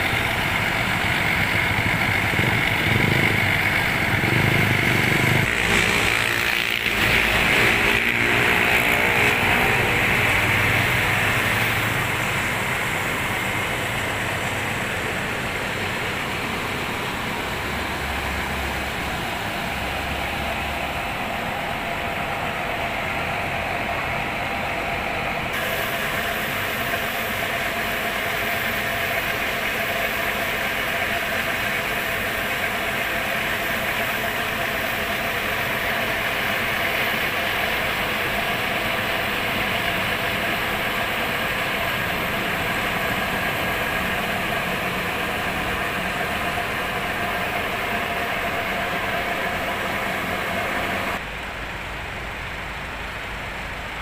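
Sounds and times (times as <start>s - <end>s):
steady hiss: 0.0s - 5.9s, 9.4s - 54.0s
diesel bus engine idling: 0.0s - 54.0s.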